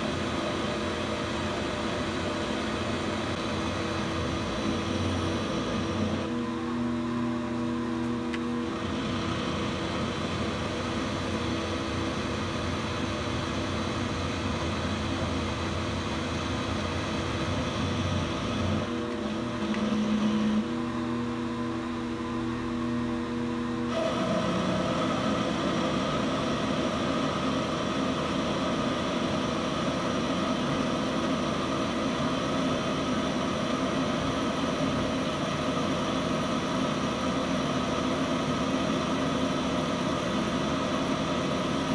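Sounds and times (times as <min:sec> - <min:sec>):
milling machine cutting metal: 0:02.1 - 0:06.6, 0:08.5 - 0:20.8, 0:23.9 - 0:41.9.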